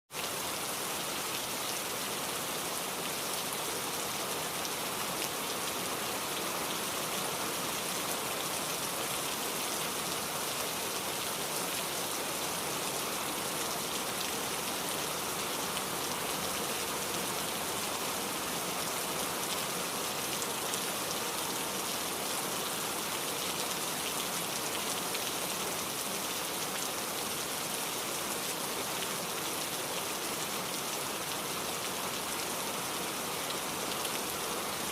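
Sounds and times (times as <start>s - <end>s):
heavy rain on hard surface: 0.1s - 34.9s.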